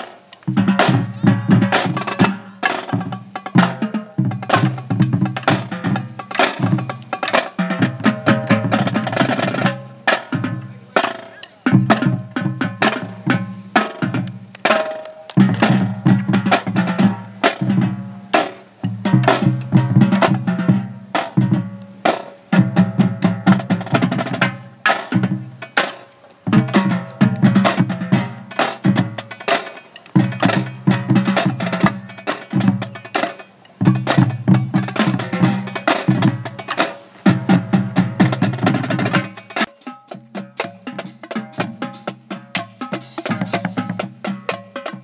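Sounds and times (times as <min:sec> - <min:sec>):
marching drumline playing: 0:00.0 - 0:45.0.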